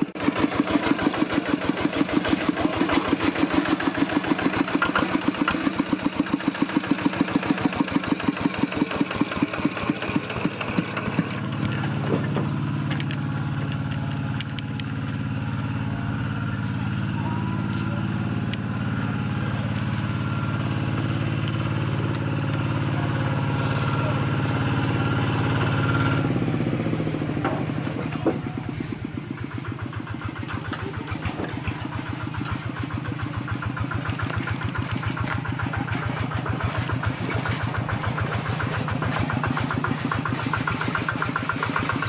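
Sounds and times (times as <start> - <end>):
diesel engine chugging: 0.0 - 42.0.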